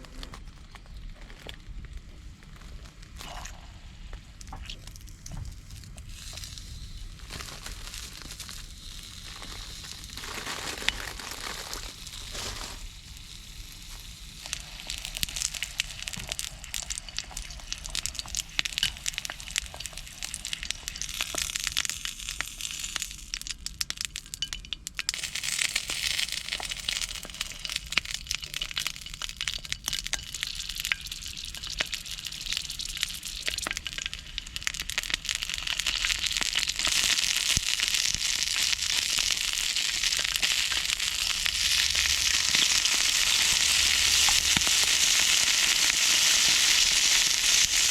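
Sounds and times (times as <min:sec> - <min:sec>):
oil crackling and popping in a pan: 0:00.0 - 0:47.9.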